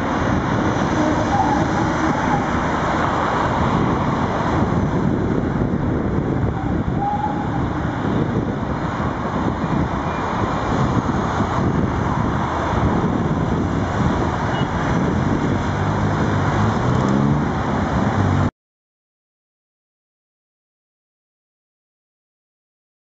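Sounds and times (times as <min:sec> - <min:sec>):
cars driving past: 0:00.0 - 0:18.5
vehicle engine speeding up: 0:00.0 - 0:18.5.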